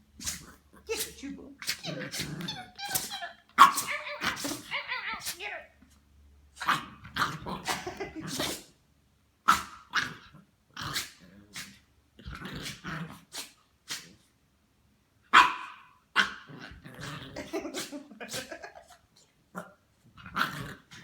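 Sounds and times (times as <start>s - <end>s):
dog growling and barking: 0.2s - 5.2s, 6.6s - 8.8s, 9.4s - 14.3s, 15.3s - 21.0s.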